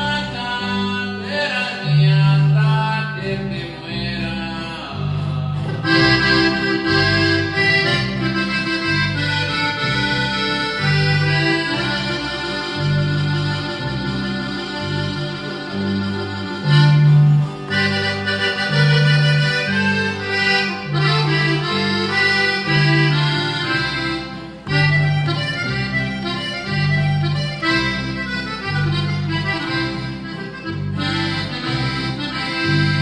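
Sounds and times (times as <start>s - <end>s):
accordion melody: 0.0s - 33.0s
electric bass: 0.0s - 33.0s.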